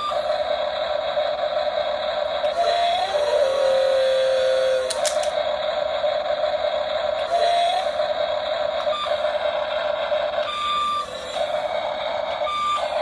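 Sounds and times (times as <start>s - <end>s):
model excavator motor whine: 0.0s - 13.0s.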